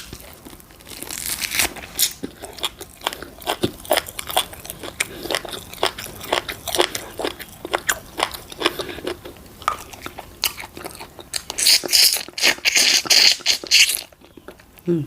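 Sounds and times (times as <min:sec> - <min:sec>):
chewing and crunching: 0:00.0 - 0:14.9.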